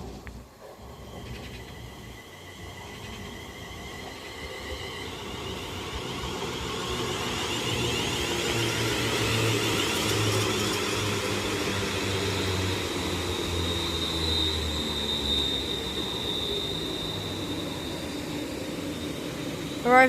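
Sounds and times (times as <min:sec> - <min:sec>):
electric train rumble and whine: 0:00.0 - 0:20.0.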